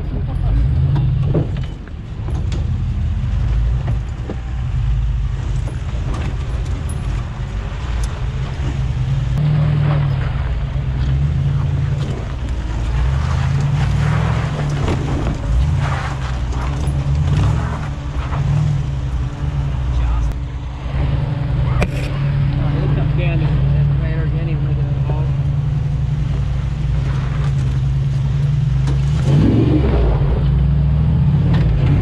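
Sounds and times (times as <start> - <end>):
engine running at low revs: 0.0 - 32.0
tyres crunching on dirt and stones: 0.6 - 32.0.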